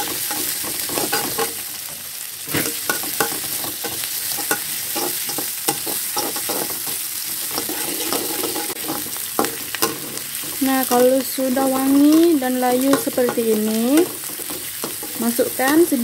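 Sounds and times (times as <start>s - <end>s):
food sizzling in hot oil: 0.0s - 16.0s
metal spatula scraping wok: 0.0s - 16.0s.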